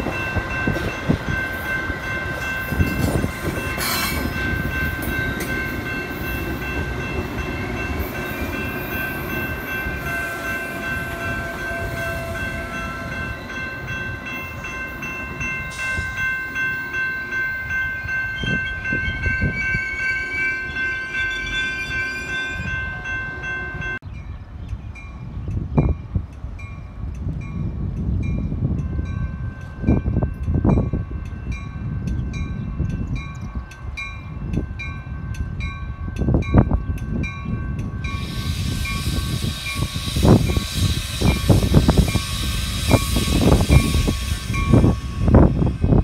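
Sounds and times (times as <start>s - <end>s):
crossing warning bell ringing: 0.0s - 46.0s
train wheels rumbling on rails: 0.0s - 46.0s.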